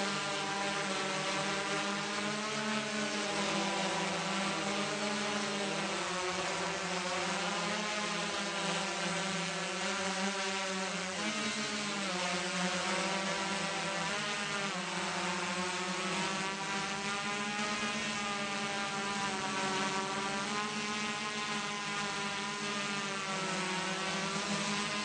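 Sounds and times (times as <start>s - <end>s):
aircraft motor hum: 0.0s - 25.0s.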